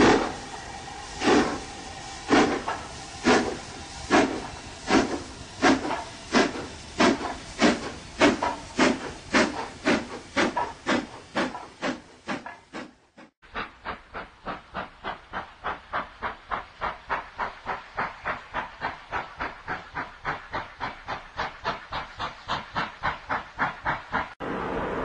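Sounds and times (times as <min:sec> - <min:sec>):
steam hissing: 0:00.0 - 0:25.0
steam locomotive chuffing: 0:00.0 - 0:25.0.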